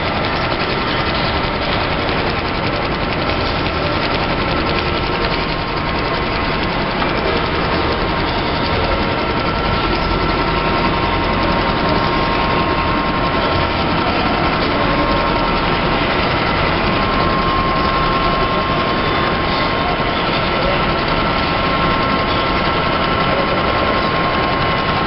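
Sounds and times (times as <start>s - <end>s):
industrial sewing machine running: 0.0s - 25.0s
thin steady whine: 0.0s - 25.0s.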